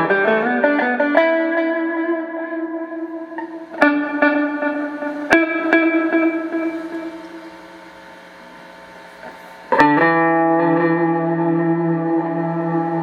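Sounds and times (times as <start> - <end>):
clean electric guitar chords: 0.0 - 13.0.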